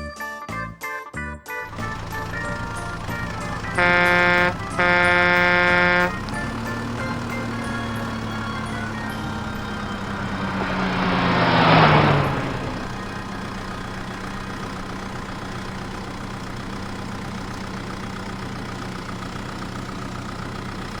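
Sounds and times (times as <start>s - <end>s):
vehicle engine idling: 1.6s - 21.0s.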